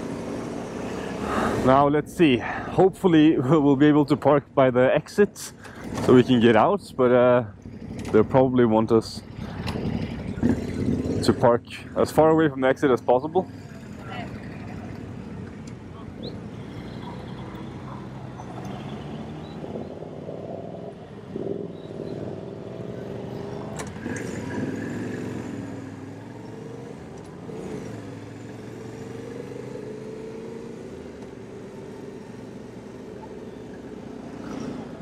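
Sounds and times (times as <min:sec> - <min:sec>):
motorcycle engine: 0:00.0 - 0:04.6, 0:05.5 - 0:35.0.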